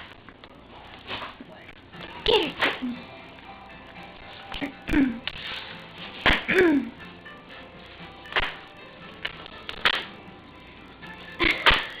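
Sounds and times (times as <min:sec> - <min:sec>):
background music: 0:01.5 - 0:12.0.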